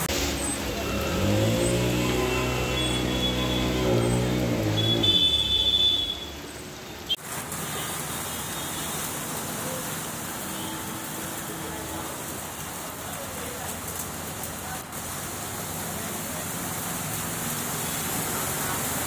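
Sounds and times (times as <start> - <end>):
rain and water on flooded street: 0.0 - 19.0.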